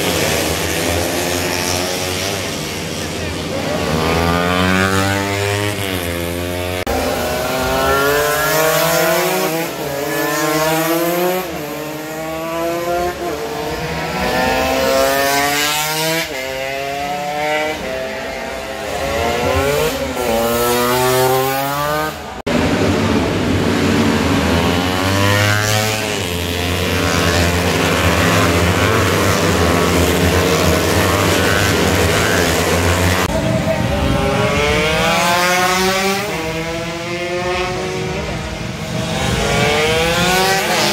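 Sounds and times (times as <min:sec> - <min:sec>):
motorcycles running in a pack: 0:00.0 - 0:40.9
racing motorcycles passing: 0:00.0 - 0:40.9.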